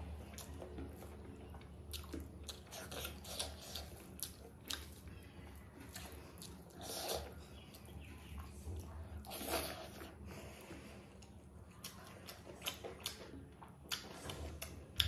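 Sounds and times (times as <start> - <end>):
chewing with wet squishes: 0.0 - 15.0.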